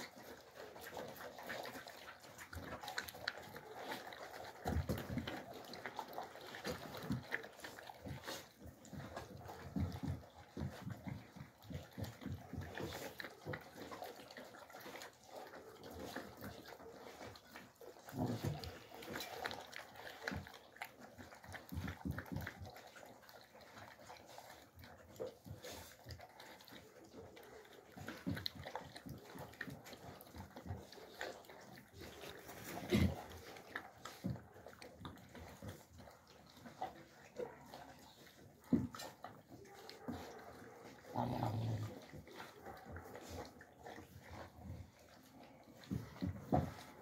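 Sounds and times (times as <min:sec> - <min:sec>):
puppies chewing wetly: 0:00.0 - 0:47.0
puppies snuffling: 0:00.0 - 0:47.0.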